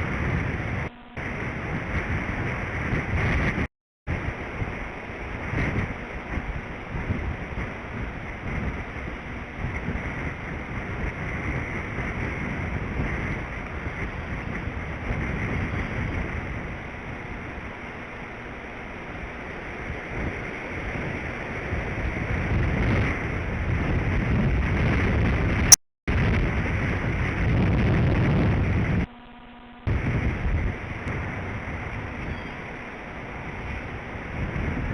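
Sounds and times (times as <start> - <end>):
wind buffeting microphone: 0.0 - 29.2, 29.8 - 34.9
faint hum: 0.0 - 34.9.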